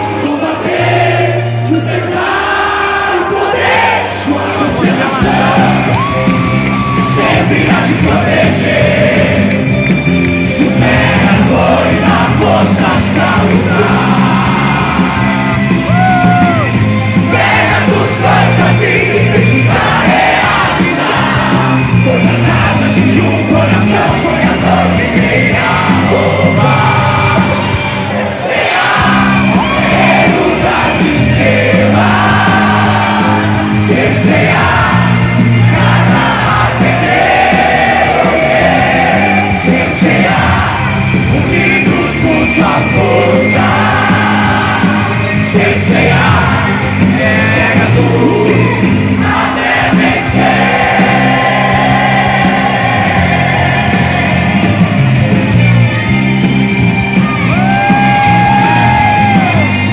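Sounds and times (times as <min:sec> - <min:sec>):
crowd yelling and cheering: 0:00.0 - 0:59.9
live band music with lead singer: 0:00.0 - 0:59.9.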